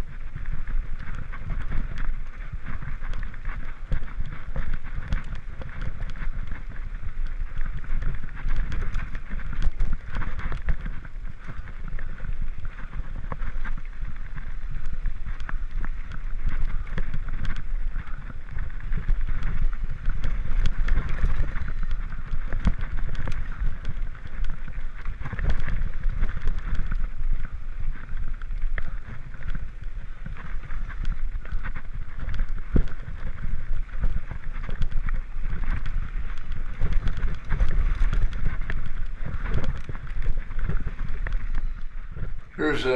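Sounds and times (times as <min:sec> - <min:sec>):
bike knocking and rattling: 0:00.0 - 0:42.6
bike tyres rumbling on dirt: 0:00.0 - 0:42.9.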